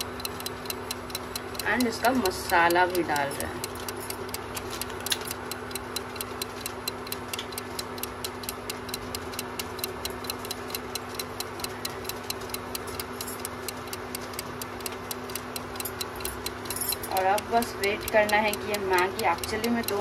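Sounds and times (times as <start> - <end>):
fast clock ticking: 0.0 - 20.0
induction cooktop hum and hiss: 0.0 - 20.0.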